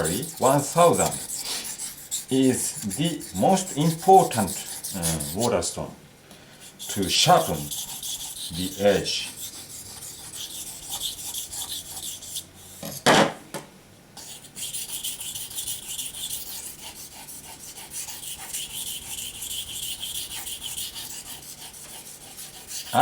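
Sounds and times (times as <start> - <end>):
knife scraping on a whetstone: 0.0 - 5.6, 6.6 - 13.0, 14.2 - 23.0.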